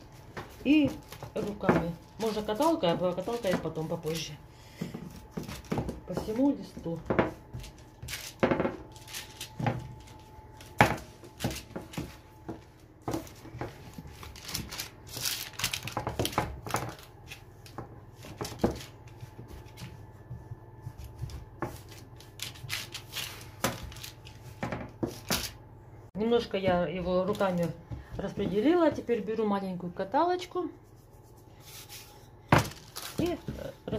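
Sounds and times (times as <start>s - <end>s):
hands patting dough: 0.0s - 25.5s, 26.5s - 29.6s
baking paper rustling: 0.0s - 25.6s, 27.0s - 29.3s, 30.7s - 33.9s.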